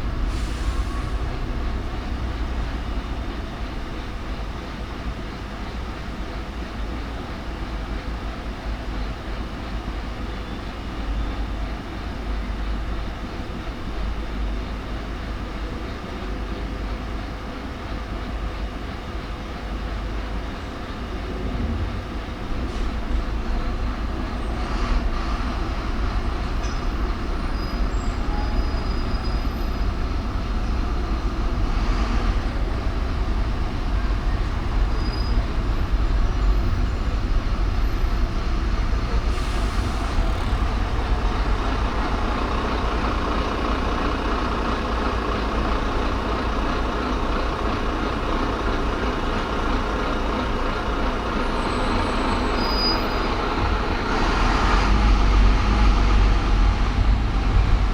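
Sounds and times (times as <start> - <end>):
car driving on city streets: 0.0 - 57.9
low road rumble: 0.0 - 57.9.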